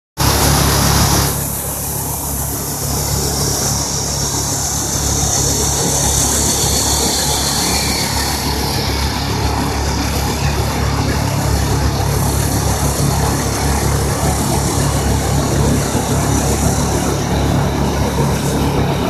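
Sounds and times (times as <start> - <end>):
car engine running: 0.2 - 19.0
steady low hum: 0.2 - 19.0.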